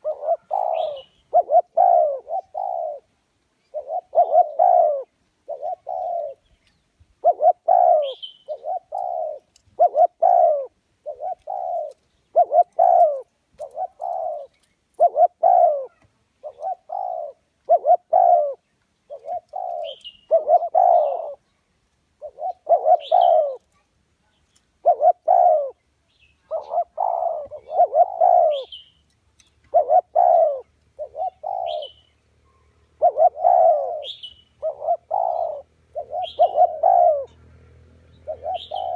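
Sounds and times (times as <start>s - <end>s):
dove cooing: 0.0s - 21.5s, 22.1s - 23.8s, 24.8s - 25.8s, 26.4s - 29.0s, 29.6s - 38.9s.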